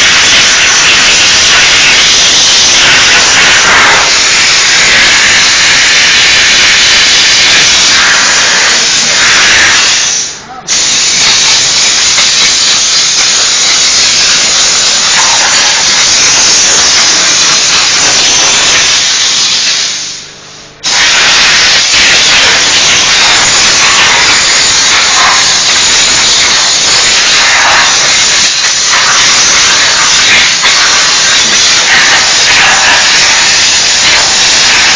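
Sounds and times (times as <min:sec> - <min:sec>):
hissing jet of steam: 0:00.0 - 0:20.2, 0:20.8 - 0:34.9.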